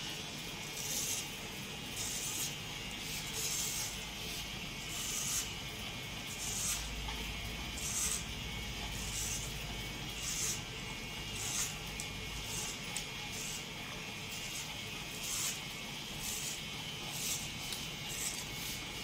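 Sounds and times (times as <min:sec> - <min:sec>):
electric hair trimmer cutting: 0:00.0 - 0:19.0.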